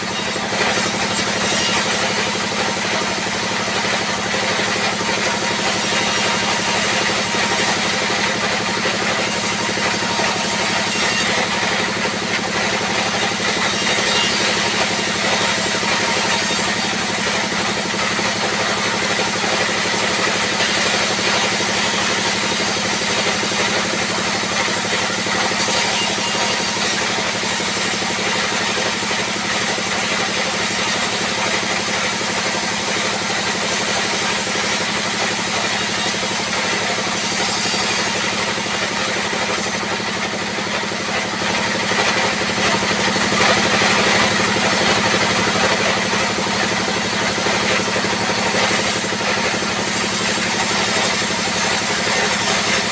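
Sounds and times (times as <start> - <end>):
saw cutting boards: 0.0 - 52.9.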